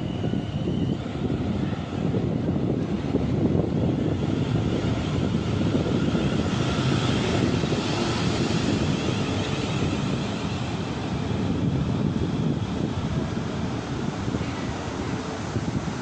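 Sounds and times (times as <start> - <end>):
rushing noise: 0.0 - 16.0
train rumbling: 0.0 - 16.0.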